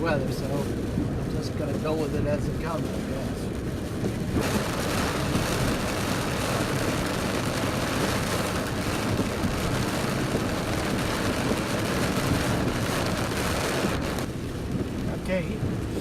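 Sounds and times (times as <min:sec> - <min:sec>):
rain on car: 0:00.0 - 0:16.0
tyres hissing on wet road: 0:00.1 - 0:14.3.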